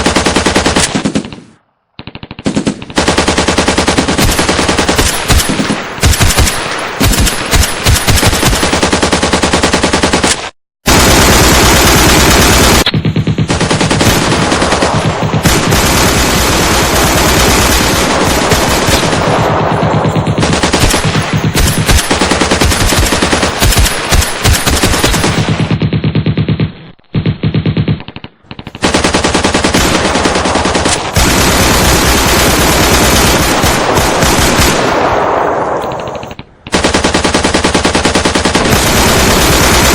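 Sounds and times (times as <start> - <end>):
machine-gun fire: 0.0 - 39.9.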